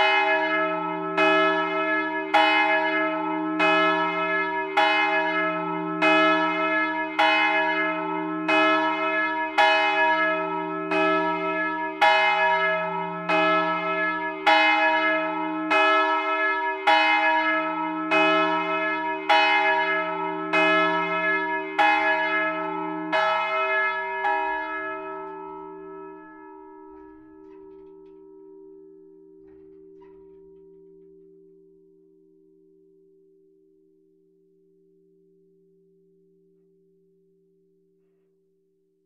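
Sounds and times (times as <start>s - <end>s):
large bell ringing: 0.0s - 32.8s.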